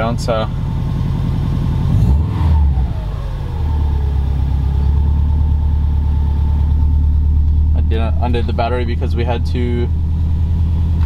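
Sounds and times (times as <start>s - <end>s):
turbocharged car engine idling: 0.0s - 11.0s.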